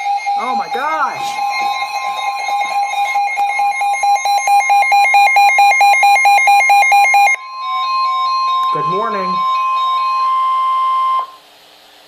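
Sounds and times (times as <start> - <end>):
rapid electronic beeping: 0.0 - 11.4
steady high tone: 0.0 - 11.4.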